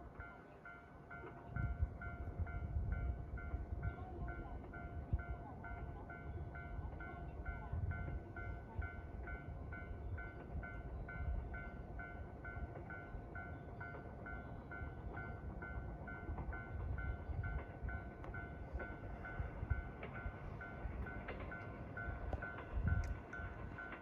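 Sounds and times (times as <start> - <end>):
level crossing warning bell: 0.0 - 24.0
low rumble of standing train: 0.0 - 24.0.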